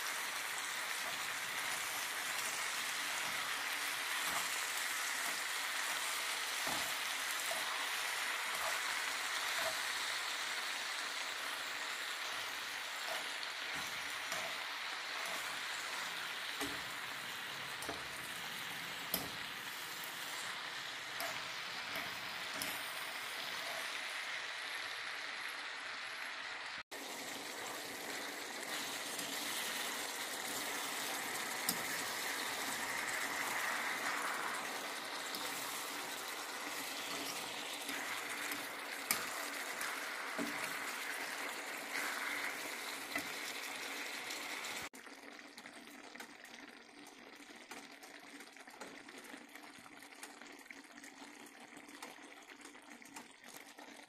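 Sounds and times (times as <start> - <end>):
meat and vegetables sizzling: 0.0 - 45.3.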